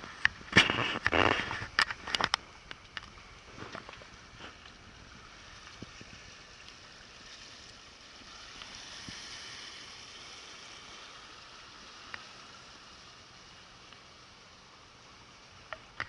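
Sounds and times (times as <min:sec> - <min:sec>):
water washing along boat hulls: 0:00.0 - 0:16.0.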